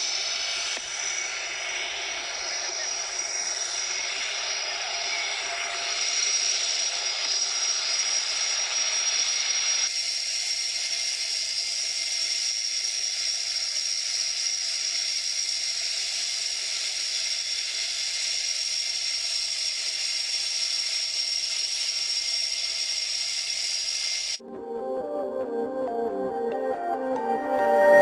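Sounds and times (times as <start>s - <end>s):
jet engine hiss and whine: 0.0s - 28.0s.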